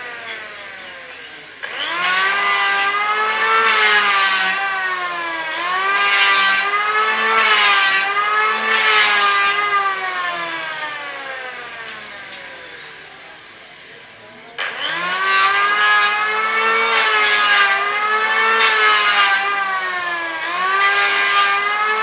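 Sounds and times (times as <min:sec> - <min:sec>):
planer cutting hiss: 0:00.0 - 0:22.0
wood planer motor whine: 0:00.0 - 0:22.0.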